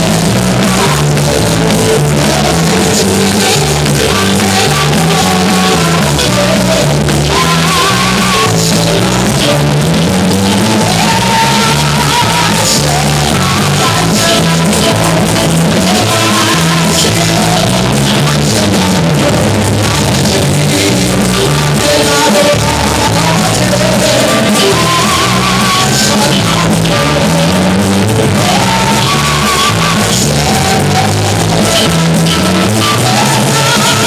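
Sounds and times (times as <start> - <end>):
live music with singing: 0.0 - 34.0.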